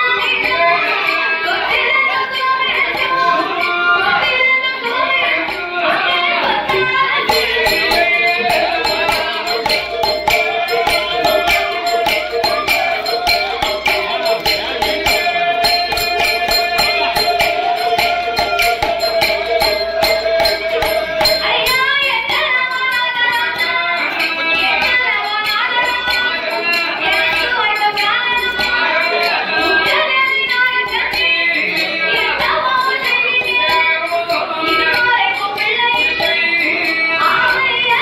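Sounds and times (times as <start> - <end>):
bells and percussion jingling beat: 0.0 - 38.0
person singing: 0.0 - 38.0.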